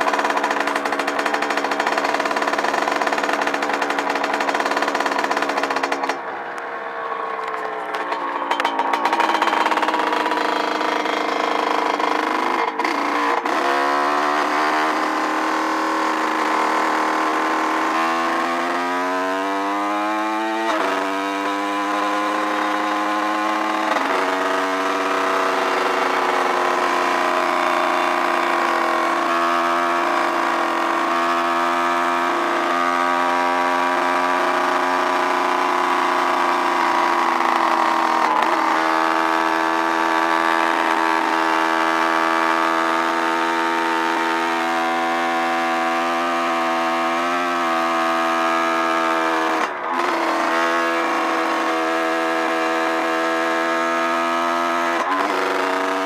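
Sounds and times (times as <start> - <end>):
dirt bike engine: 0.0 - 56.0.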